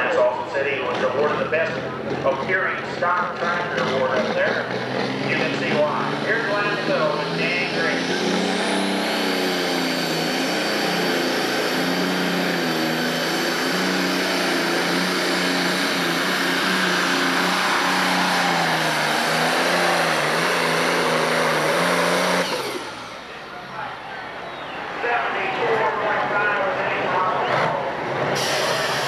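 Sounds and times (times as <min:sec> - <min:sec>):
tractor diesel engine at full load: 0:00.0 - 0:29.0.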